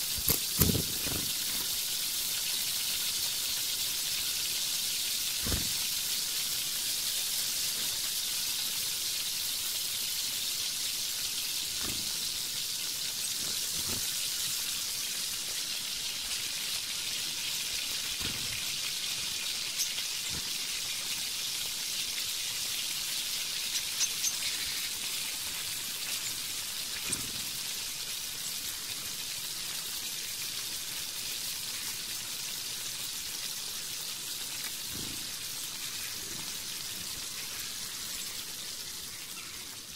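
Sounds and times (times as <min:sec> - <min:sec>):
hot oil sizzling in a wok: 0:00.0 - 0:39.9.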